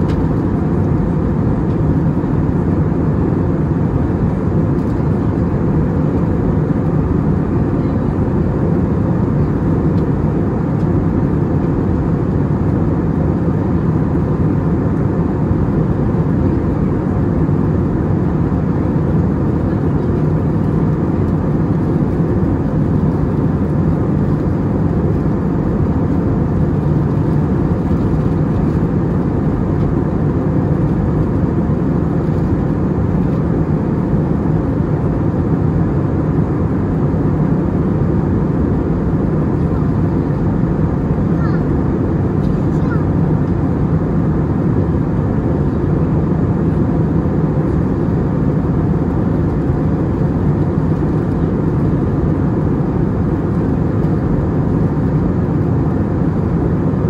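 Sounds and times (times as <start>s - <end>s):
airplane cabin airflow and engine: 0.0s - 57.0s
faint steady hum: 0.0s - 57.0s.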